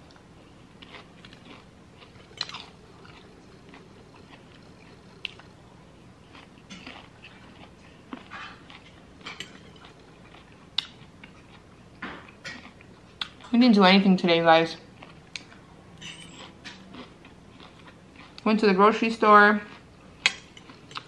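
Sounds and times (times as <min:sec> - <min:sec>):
chewing crunchy salad: 0:00.0 - 0:13.6, 0:14.8 - 0:21.0.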